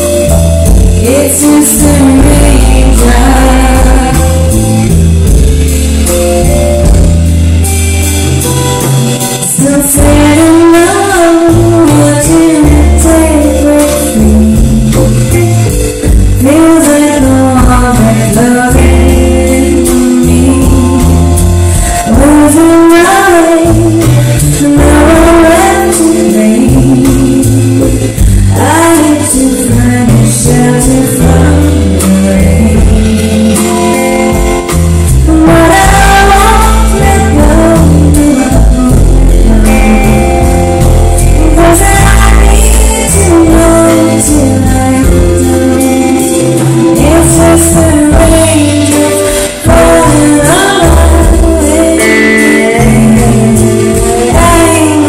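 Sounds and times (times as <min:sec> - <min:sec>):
woman singing: 0:00.0 - 0:05.4, 0:09.2 - 0:55.0
live band playing: 0:00.0 - 0:55.0.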